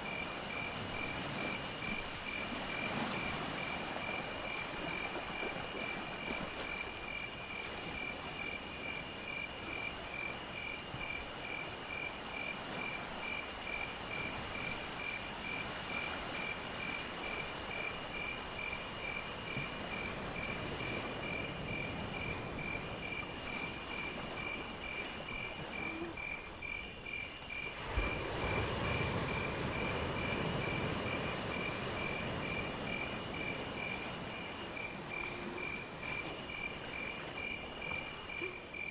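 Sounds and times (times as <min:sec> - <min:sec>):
cricket chirping: 0:00.0 - 0:38.9
high buzzing insect chorus: 0:00.0 - 0:38.9.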